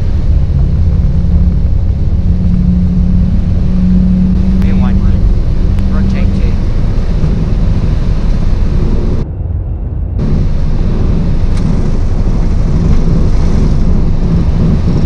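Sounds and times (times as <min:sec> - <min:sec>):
jet engines at takeoff thrust: 0:00.0 - 0:15.0
wheels rumbling on runway: 0:00.0 - 0:15.0.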